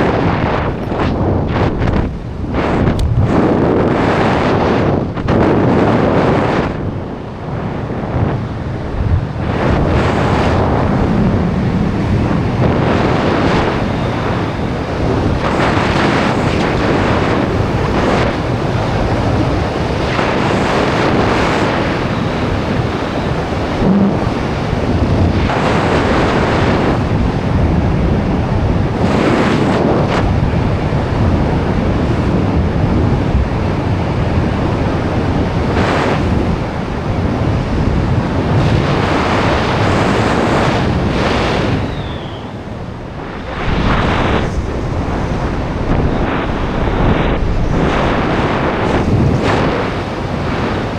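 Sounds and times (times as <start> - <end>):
wind roaring on microphone: 0.0 - 50.9.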